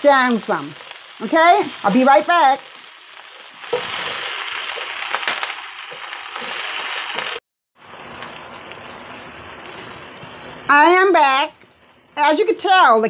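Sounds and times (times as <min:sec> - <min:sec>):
cabbage sizzling in grease: 0:00.0 - 0:11.2.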